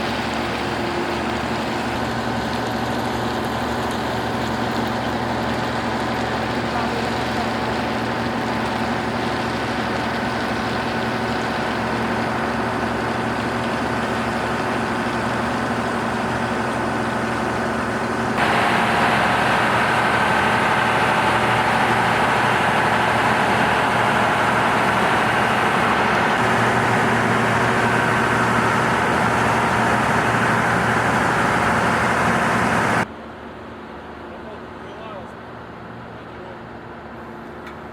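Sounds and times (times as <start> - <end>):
heavy machinery engine running: 0.0 - 33.1.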